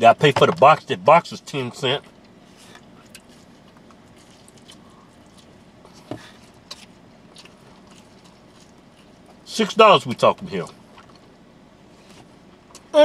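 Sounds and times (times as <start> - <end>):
people chewing pizza: 1.5 - 13.0.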